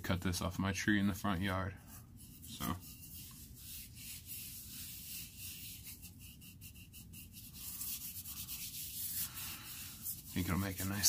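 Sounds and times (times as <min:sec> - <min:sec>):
gloved hands rubbing wooden mallet: 0:01.0 - 0:11.0.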